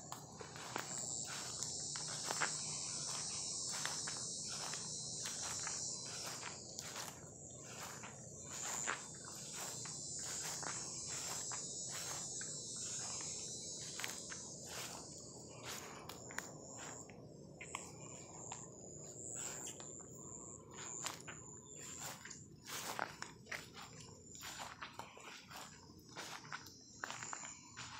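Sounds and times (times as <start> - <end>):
footsteps on grass: 0.0 - 27.9
insects trilling: 0.0 - 27.9.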